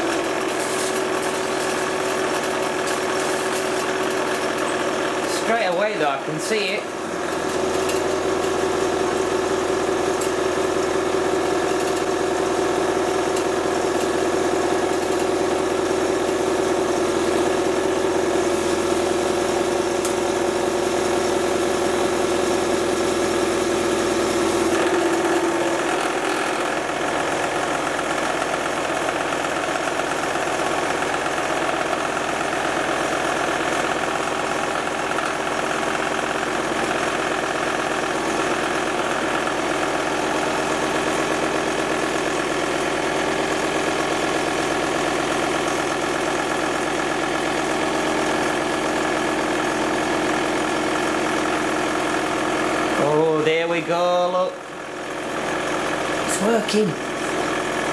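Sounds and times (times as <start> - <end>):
candyfloss machine motor hum: 0.0 - 57.9.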